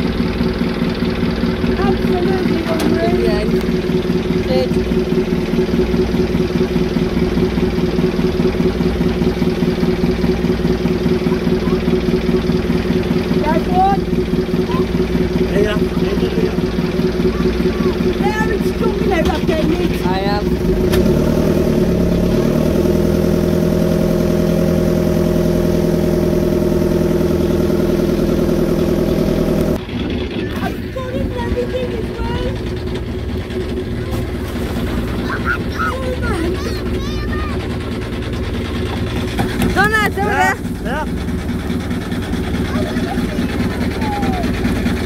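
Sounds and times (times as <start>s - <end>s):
boat engine humming: 0.0s - 45.0s.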